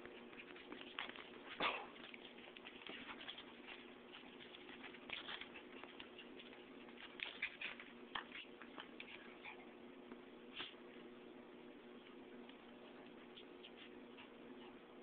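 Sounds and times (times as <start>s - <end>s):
dog and kitten scuffling on carpet: 0.0s - 15.0s.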